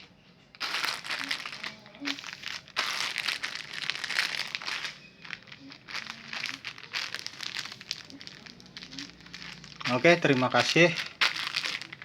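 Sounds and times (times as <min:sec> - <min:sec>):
plastic packaging crinkling: 0:00.5 - 0:12.0.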